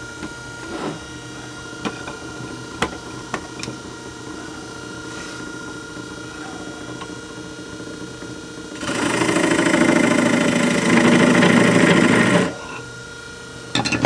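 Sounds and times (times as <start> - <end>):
wood lathe motor humming: 0.0 - 14.0.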